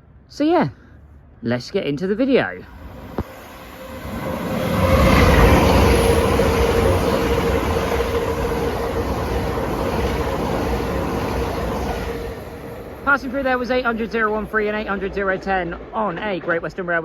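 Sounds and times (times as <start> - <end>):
trains passing at speed: 2.6 - 17.0.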